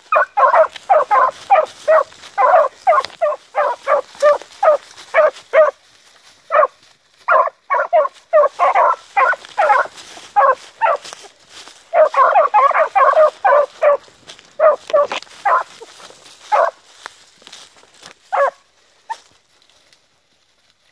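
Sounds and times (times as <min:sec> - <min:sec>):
hound dogs barking: 0:00.0 - 0:05.8, 0:06.4 - 0:16.9, 0:18.3 - 0:19.2.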